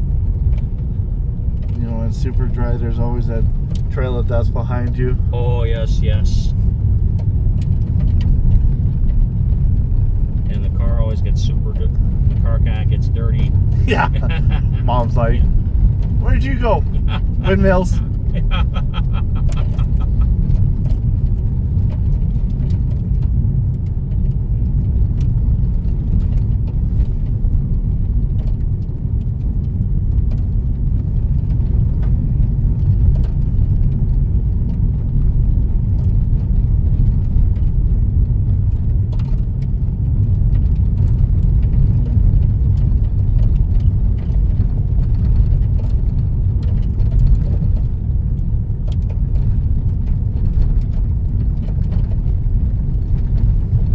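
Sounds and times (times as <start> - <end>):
car rumbling on dirt road: 0.0 - 53.9.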